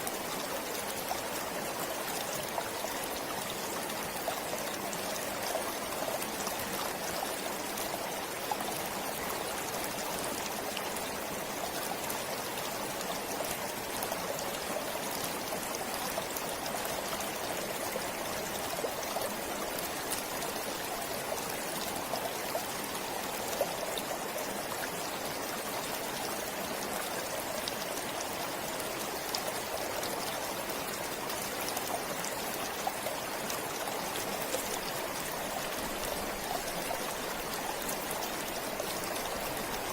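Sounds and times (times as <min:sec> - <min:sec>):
stream water flowing: 0:00.0 - 0:39.9
water trickling and dripping: 0:00.0 - 0:39.9.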